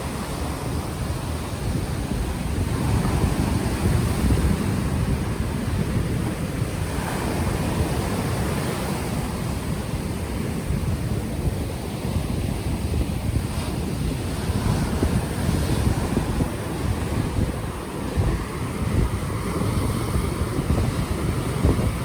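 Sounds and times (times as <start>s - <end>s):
ocean waves washing onto shore: 0.0s - 22.0s
wind buffeting microphone: 0.0s - 22.0s.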